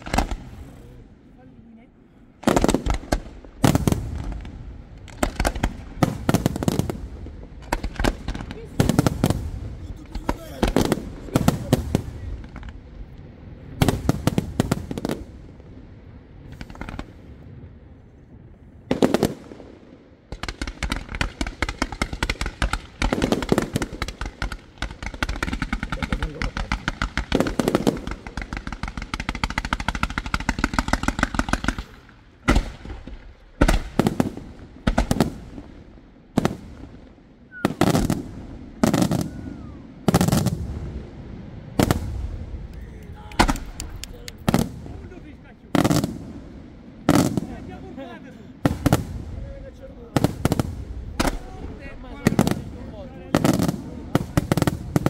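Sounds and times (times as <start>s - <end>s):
firework barrage of cracks: 0.0s - 1.2s, 2.4s - 17.9s, 18.9s - 55.0s.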